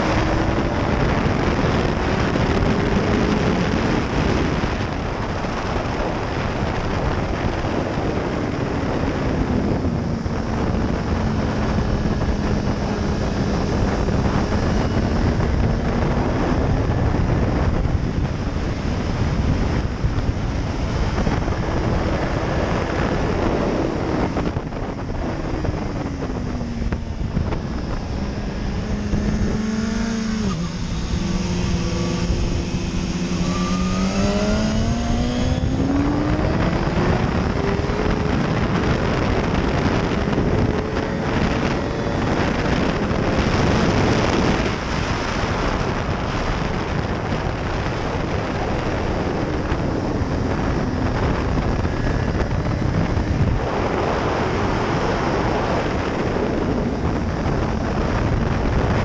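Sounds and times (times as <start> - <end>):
heavy wind rush: 0.0 - 59.0
motorcycle engine revving: 0.0 - 59.0.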